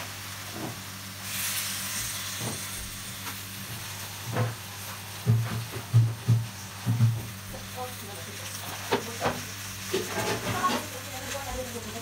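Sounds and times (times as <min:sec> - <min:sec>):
liquid sizzling in hot wok: 0:00.0 - 0:12.0.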